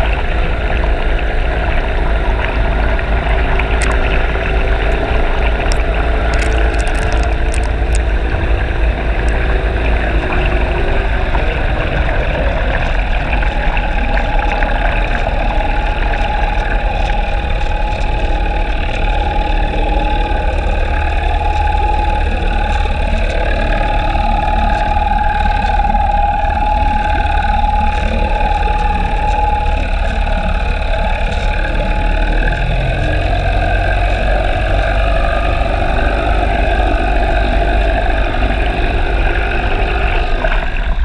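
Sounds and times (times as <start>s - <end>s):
high whine: 0.0s - 41.0s
underwater boat engine drone: 0.0s - 41.0s.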